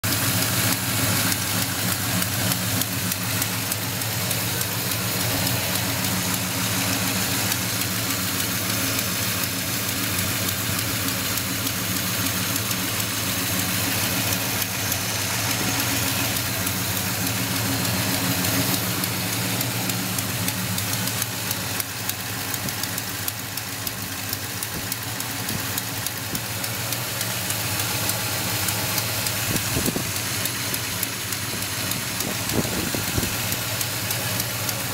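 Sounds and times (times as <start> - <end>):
car engine idling: 0.0 - 34.9
exhaust leak ticking: 0.0 - 34.9.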